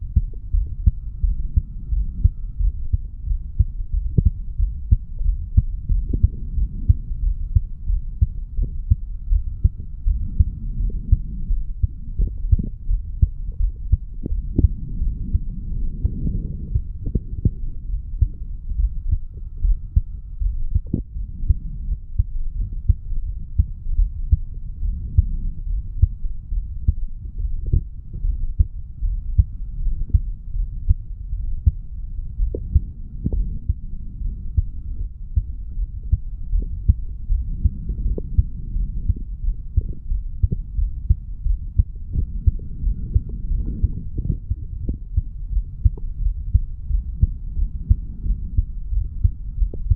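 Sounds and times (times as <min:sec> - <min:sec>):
heartbeat thumps: 0:00.0 - 0:49.9.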